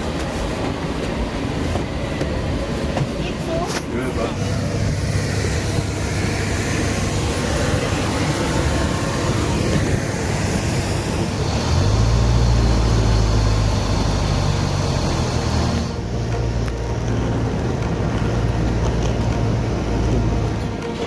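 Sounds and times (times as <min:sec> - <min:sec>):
steady rushing noise: 0:00.0 - 0:21.0
vehicle engine droning: 0:03.9 - 0:21.0.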